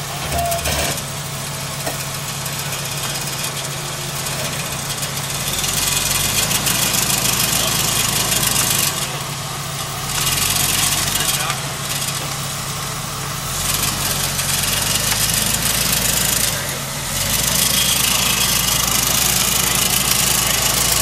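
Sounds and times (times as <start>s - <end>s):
car engine at low revs: 0.0s - 21.0s.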